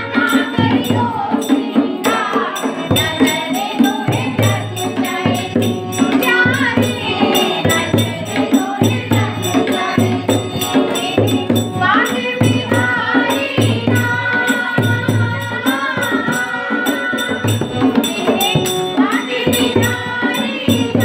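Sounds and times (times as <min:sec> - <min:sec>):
women singing together: 0:00.0 - 0:21.0.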